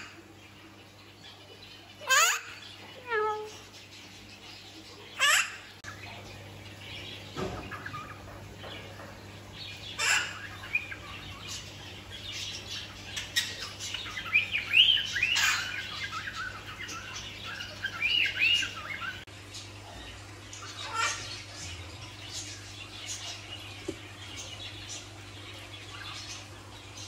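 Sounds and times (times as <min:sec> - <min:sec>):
birds chirping and calling: 0:00.0 - 0:27.0.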